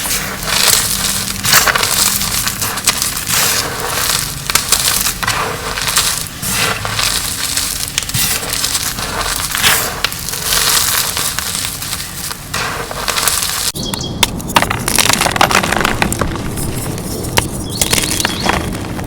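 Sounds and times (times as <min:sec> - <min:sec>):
chalk blocks crunching: 0:00.0 - 0:19.0.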